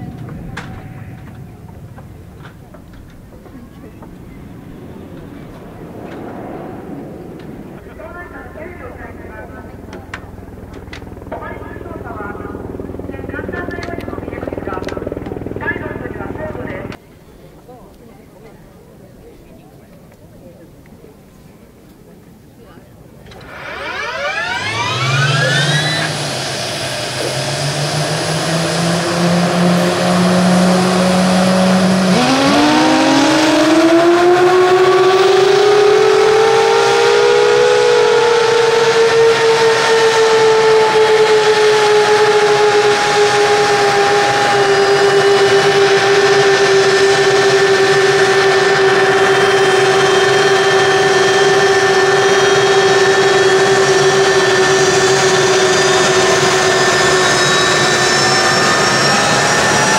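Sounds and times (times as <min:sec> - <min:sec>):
jet engine whine: 0:00.0 - 0:59.9.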